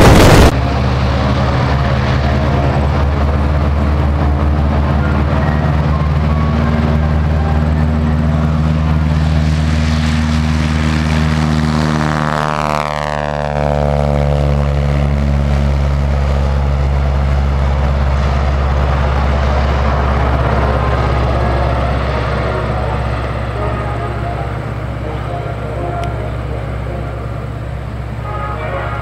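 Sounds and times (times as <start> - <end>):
falling whoosh of passing plane: 0.0 - 6.8, 8.2 - 25.3
propeller plane engine at takeoff: 0.0 - 29.0.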